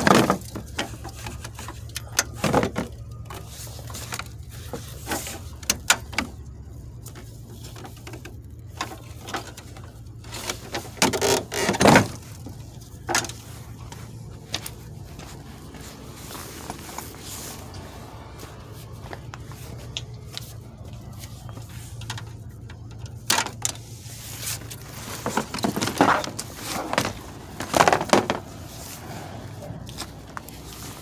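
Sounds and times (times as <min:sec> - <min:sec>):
rustling: 0:00.0 - 0:31.0
steady low rumble: 0:00.0 - 0:31.0.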